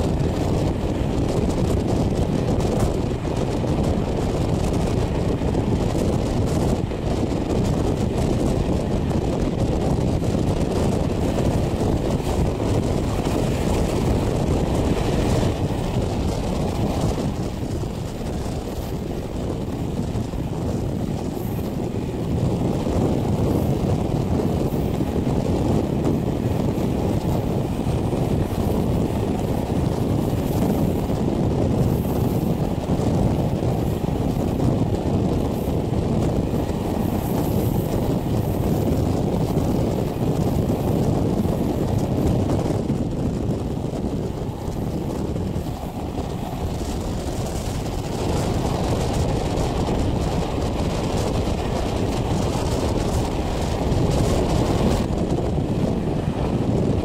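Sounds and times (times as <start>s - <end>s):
train rumbling on track: 0.0s - 57.0s
wind rushing on microphone: 0.0s - 57.0s.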